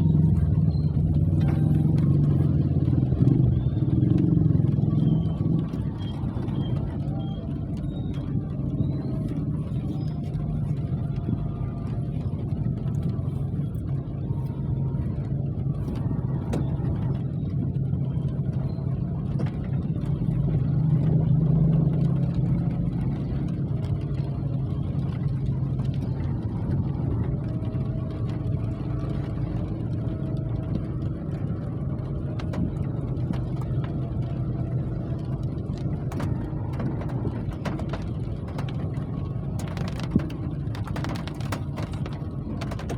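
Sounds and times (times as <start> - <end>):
engine drone: 0.0 - 42.9.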